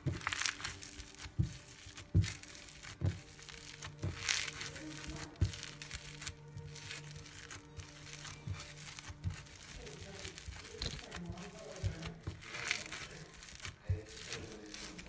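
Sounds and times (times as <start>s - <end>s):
soft low thumps: 0.0s - 14.8s
background music: 0.0s - 15.0s
slime crackling when squeezed: 0.0s - 15.0s.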